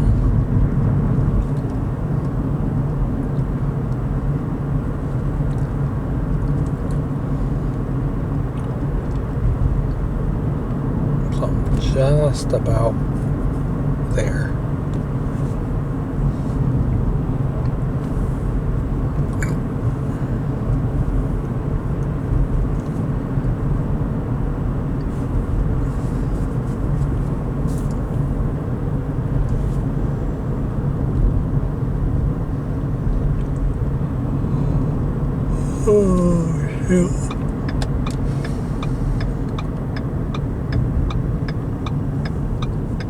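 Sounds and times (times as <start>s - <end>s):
car cabin road rumble: 0.0s - 43.0s.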